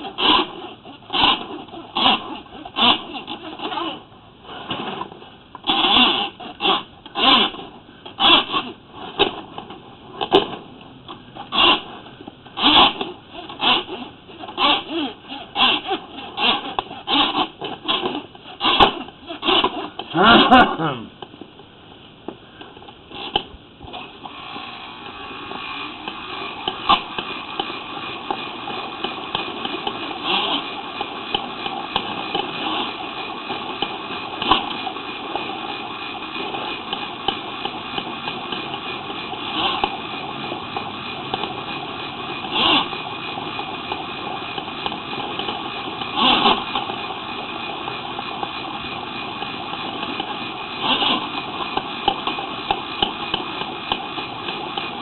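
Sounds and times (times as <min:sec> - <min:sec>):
motor running: 0:00.0 - 0:09.6, 0:11.1 - 0:21.1, 0:23.1 - 0:55.0.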